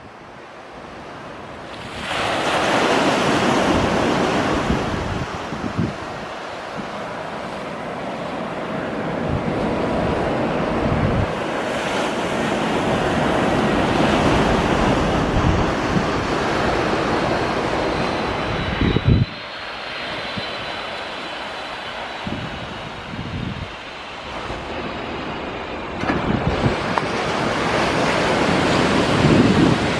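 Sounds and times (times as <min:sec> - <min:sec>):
jet plane landing: 0:00.2 - 0:29.9
wind buffeting microphone: 0:02.8 - 0:20.9, 0:22.1 - 0:29.9.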